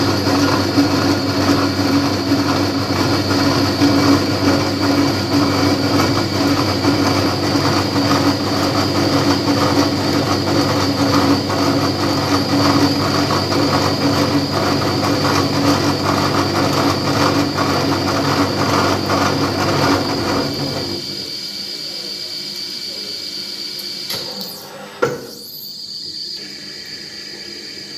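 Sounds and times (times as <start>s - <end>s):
high machine whine: 0.0s - 27.9s
milling machine drone: 0.0s - 27.9s.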